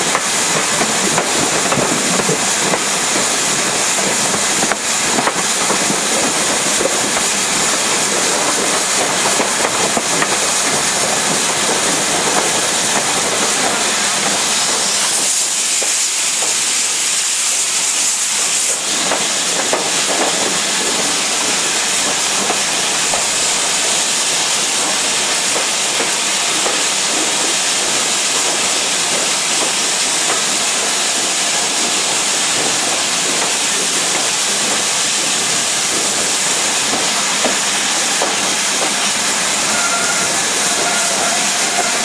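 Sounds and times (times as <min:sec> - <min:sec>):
steam escaping with a hiss: 0:00.0 - 0:42.0.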